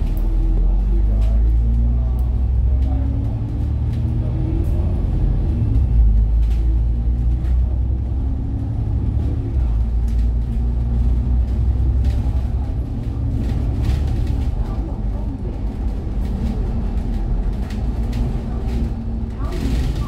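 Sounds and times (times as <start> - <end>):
bus engine: 0.0 - 20.0
road rumble: 0.0 - 20.0.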